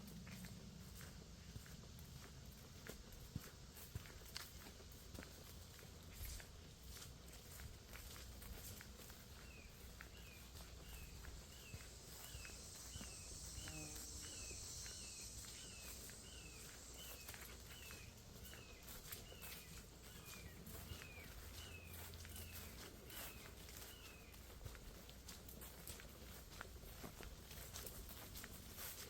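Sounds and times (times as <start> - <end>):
soft footsteps on trail: 0.0 - 29.0.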